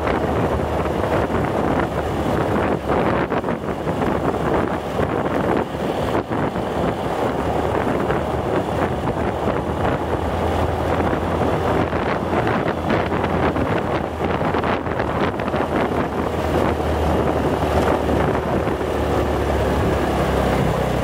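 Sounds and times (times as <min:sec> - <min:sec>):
low engine hum: 0:00.0 - 0:21.0
wind rushing over microphone: 0:00.0 - 0:21.0.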